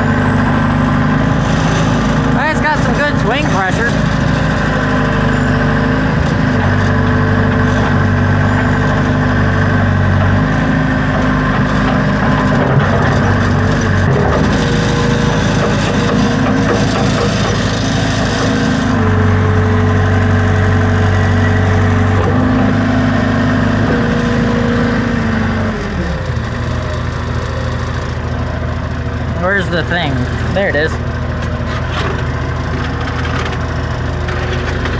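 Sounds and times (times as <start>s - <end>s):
backhoe engine under hydraulic load: 0.0s - 34.9s.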